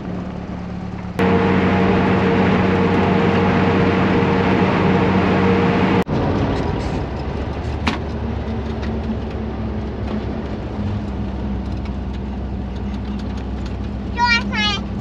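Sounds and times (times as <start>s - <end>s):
road and wind noise: 0.0s - 15.0s
van engine drone: 0.0s - 15.0s.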